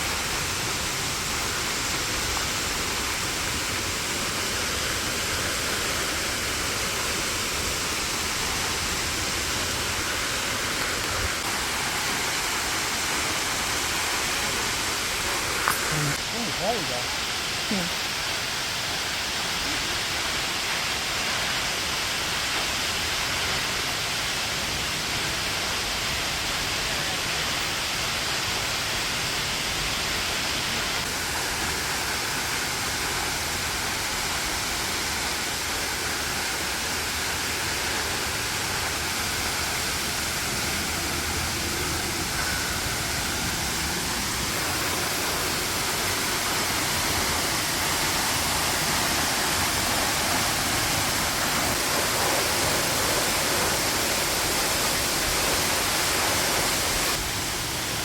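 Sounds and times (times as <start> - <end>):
waterfall crashing: 0.0 - 58.0.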